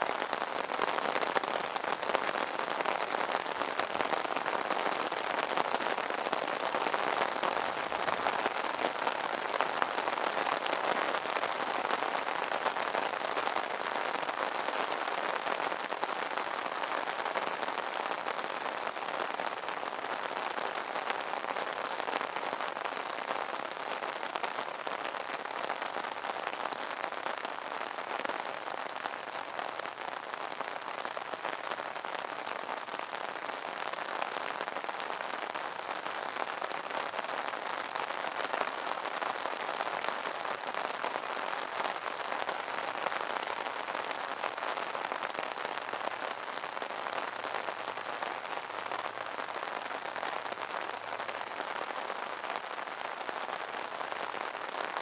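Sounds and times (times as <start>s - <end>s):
rain drumming on an umbrella: 0.0s - 55.0s.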